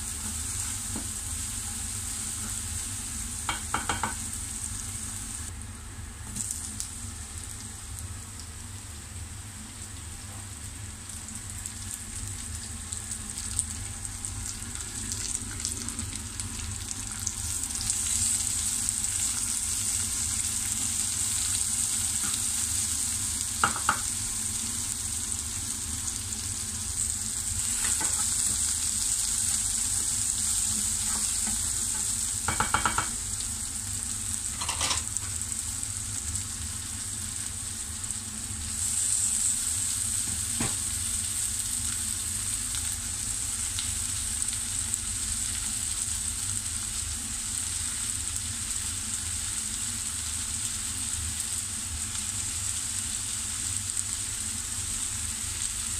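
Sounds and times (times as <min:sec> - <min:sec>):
onions sizzling in hot oil: 0:00.0 - 0:55.9.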